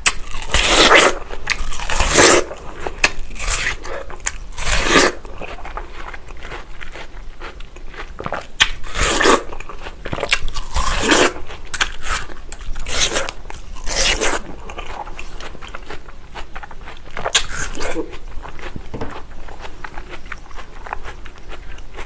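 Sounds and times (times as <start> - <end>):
biting into watermelon: 0.0 - 22.0
crunching and wet chewing: 0.0 - 22.0.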